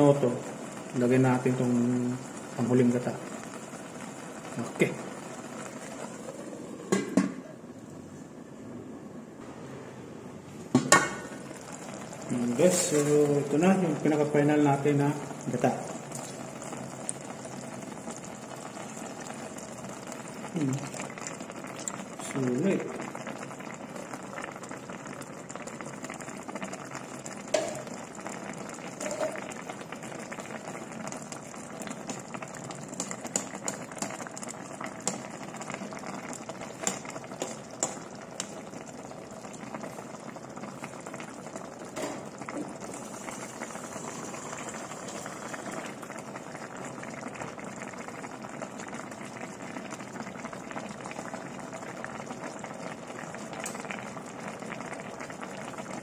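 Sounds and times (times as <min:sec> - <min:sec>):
pot bubbling with pops: 0:00.0 - 0:08.4, 0:10.6 - 0:56.0.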